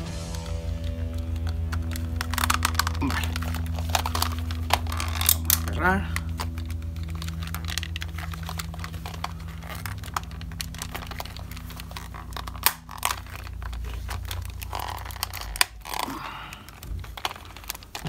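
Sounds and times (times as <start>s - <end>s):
steady low hum: 0.0s - 18.0s
sharp plastic snaps: 0.1s - 18.0s
plastic clicks and creaks: 0.2s - 18.0s.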